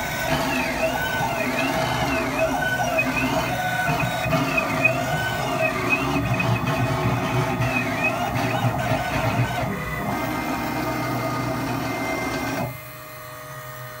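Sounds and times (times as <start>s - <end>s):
stepper motor whine: 0.0s - 14.0s.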